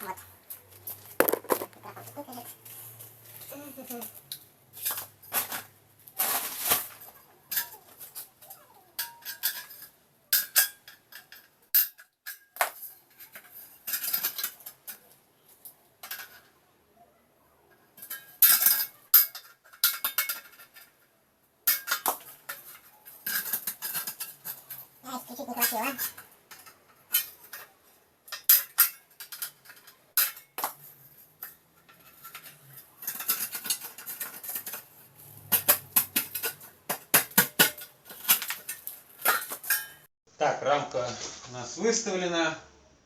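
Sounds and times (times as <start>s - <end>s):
metal profile clinking and clattering: 0.9s - 15.2s, 18.0s - 21.0s, 21.6s - 40.1s.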